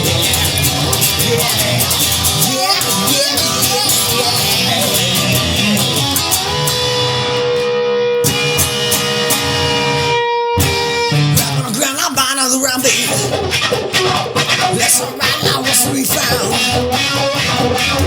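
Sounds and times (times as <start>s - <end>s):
electric guitar lead lines: 0.0s - 18.0s.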